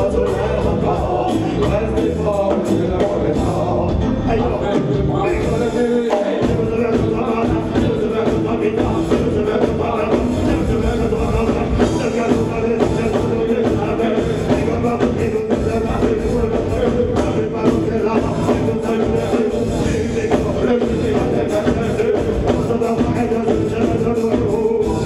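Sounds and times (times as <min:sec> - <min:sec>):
live reggae band: 0:00.0 - 0:25.0
man singing: 0:00.0 - 0:25.0.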